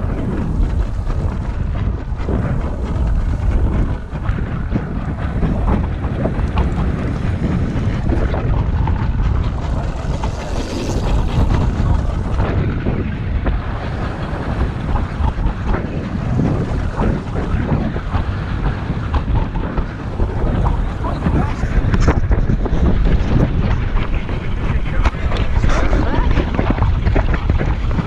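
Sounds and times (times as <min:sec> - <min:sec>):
water splashing against hull: 0:00.0 - 0:28.0
wind buffeting microphone: 0:00.0 - 0:28.0.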